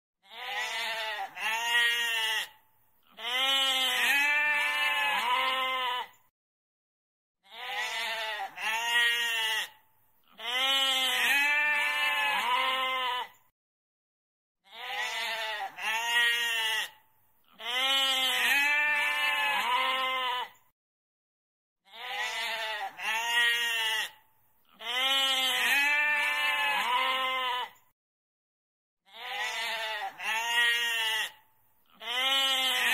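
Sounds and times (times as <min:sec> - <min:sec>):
goat bleating: 0:00.2 - 0:06.2, 0:07.4 - 0:13.4, 0:14.7 - 0:20.6, 0:21.9 - 0:27.8, 0:29.1 - 0:32.9.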